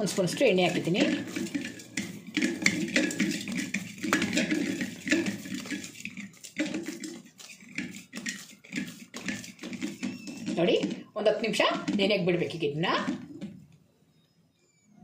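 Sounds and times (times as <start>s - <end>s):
knocks and scrapes of bowl: 0.0s - 13.6s.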